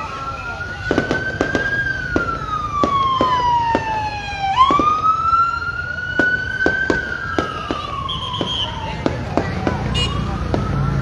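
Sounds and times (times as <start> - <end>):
fireworks bangs: 0.0 - 11.0
siren wailing: 0.0 - 11.0.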